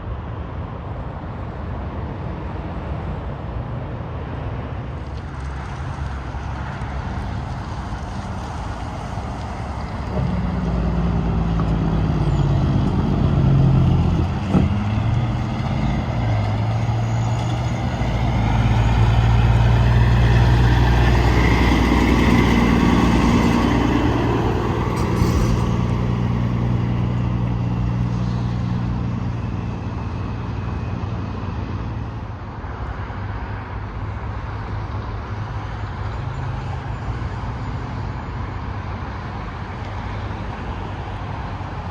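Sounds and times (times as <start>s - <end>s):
trucks passing on highway: 0.0s - 41.9s.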